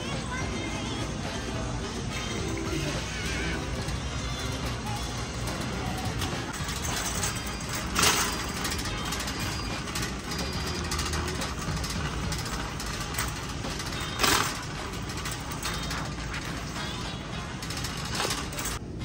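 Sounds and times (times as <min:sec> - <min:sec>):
cart clatter: 0:00.0 - 0:18.8
shopping cart rattling on concrete: 0:00.0 - 0:18.8.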